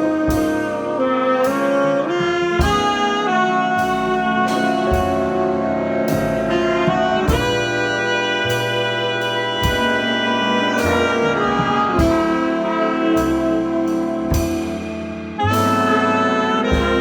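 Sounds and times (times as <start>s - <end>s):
bass notes: 0.0s - 17.0s
big band playing jazz ballad: 0.0s - 17.0s.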